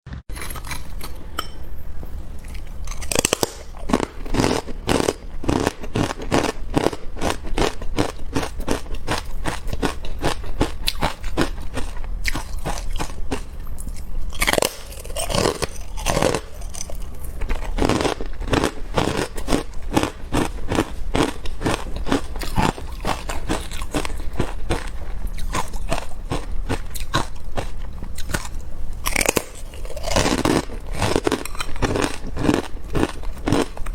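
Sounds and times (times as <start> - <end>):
crunching and chewing ice: 0.2 - 1.5, 2.4 - 33.9.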